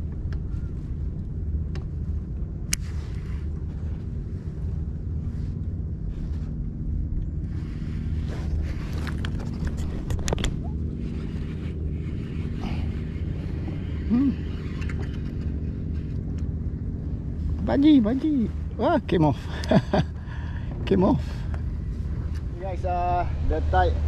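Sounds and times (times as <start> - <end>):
motorboat engine drone: 0.0 - 24.0.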